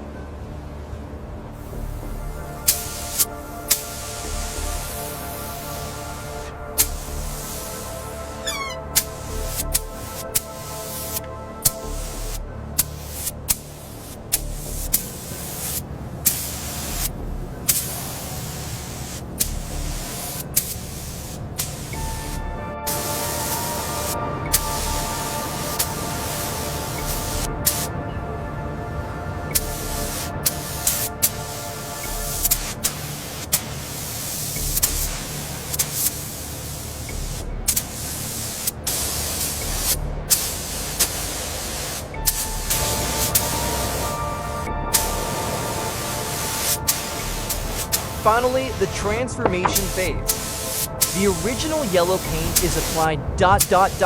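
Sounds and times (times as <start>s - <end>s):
spray gun hissing: 1.6s - 17.1s, 17.7s - 27.9s, 29.6s - 54.0s.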